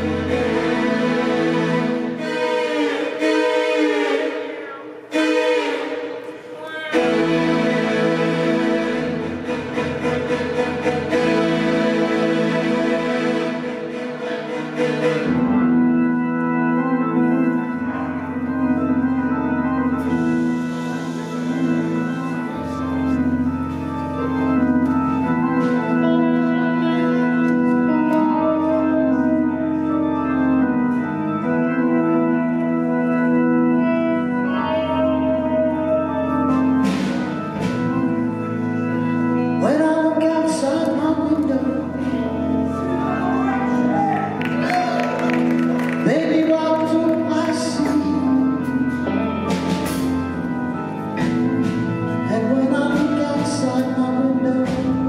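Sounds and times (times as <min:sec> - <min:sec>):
organ chords: 0:00.0 - 0:55.0
rock band playing: 0:04.5 - 0:39.9, 0:42.0 - 0:55.0.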